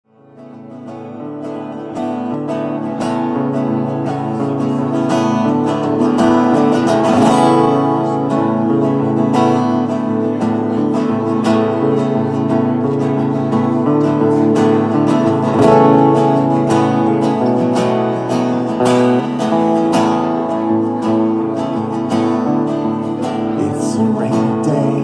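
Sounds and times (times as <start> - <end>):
acoustic guitar strumming: 0.1 - 25.0.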